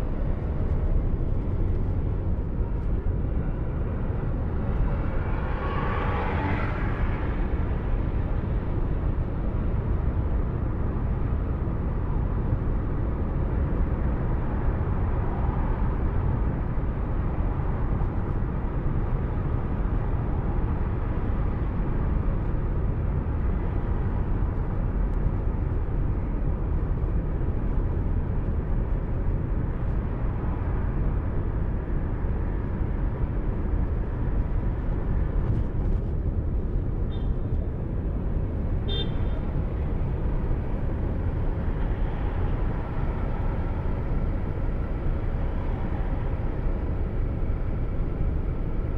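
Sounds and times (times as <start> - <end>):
car road and engine rumble: 0.0 - 48.9.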